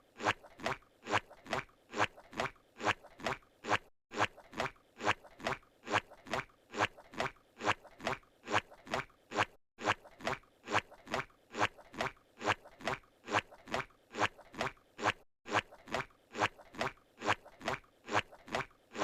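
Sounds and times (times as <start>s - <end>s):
cartoon footsteps: 0.2s - 19.0s.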